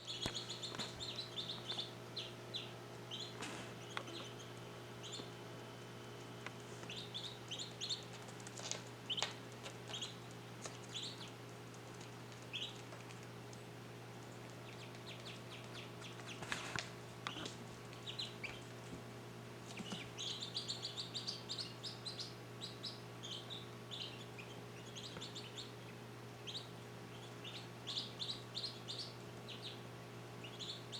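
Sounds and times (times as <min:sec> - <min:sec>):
ducklings peeping: 0:00.0 - 0:30.9
steady low hum: 0:00.0 - 0:30.9.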